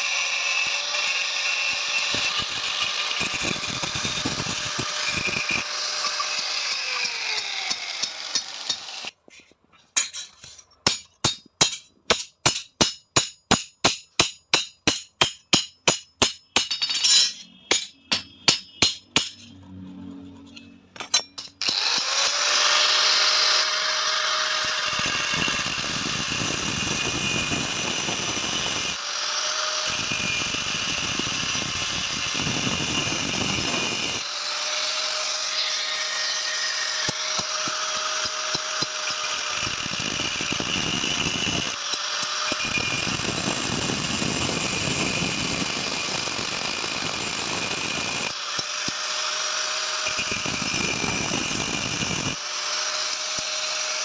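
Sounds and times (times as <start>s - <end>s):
angle grinder cutting metal: 0.0s - 9.2s, 10.9s - 54.0s.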